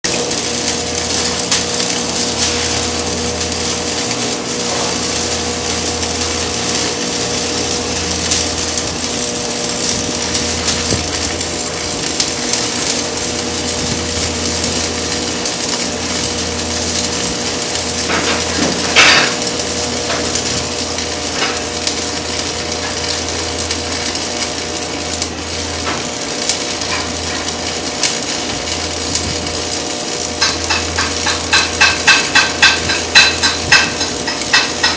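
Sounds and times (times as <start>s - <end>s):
welding arc crackling and sizzling: 0.0s - 34.9s
electrical hum: 0.1s - 34.9s.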